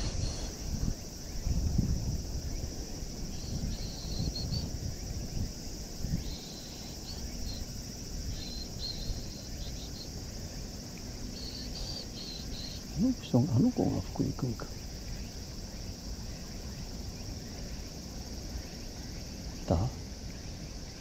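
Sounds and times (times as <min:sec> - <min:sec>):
wind buffeting microphone: 0:00.0 - 0:18.6
insects chirping: 0:00.0 - 0:21.0
steady high hiss: 0:00.0 - 0:21.0.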